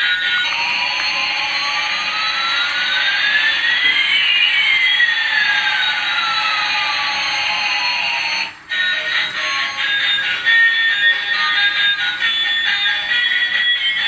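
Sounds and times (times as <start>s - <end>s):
faint high chirps: 0.1s - 14.0s.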